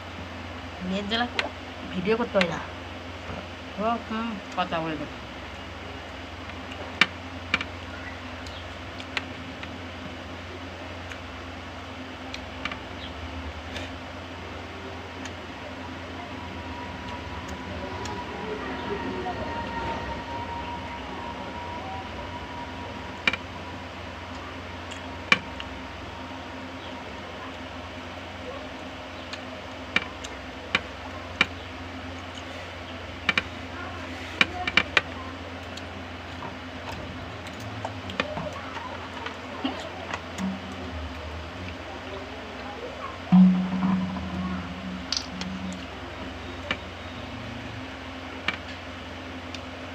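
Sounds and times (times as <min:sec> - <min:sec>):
low background hum: 0:00.0 - 0:49.9.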